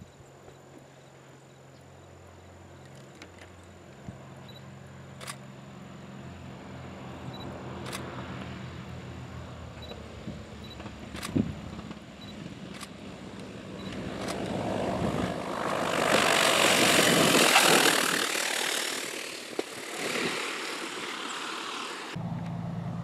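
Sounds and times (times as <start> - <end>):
propeller plane engines droning: 0.1 - 23.0.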